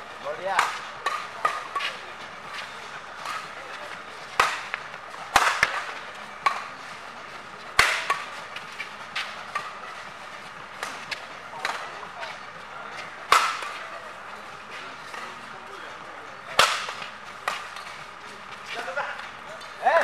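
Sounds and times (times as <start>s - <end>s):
rackets striking shuttlecock: 0.1s - 15.6s, 16.4s - 19.9s.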